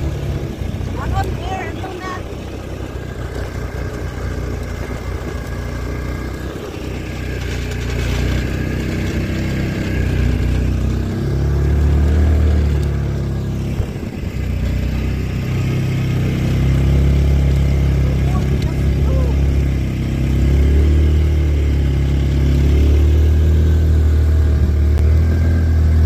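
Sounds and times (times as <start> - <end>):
utility vehicle engine running: 0.0 - 26.0.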